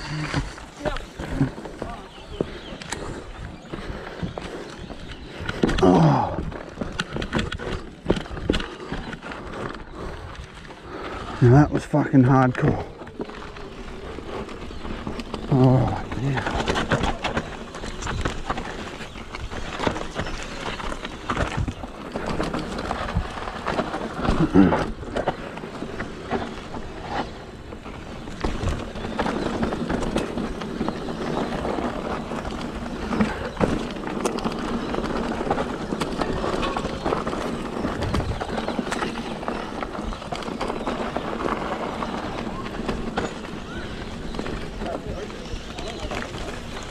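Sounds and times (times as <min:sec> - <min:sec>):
bike rattling and knocking: 0:00.0 - 0:46.9
bike tyres rolling on gravel: 0:00.0 - 0:46.9.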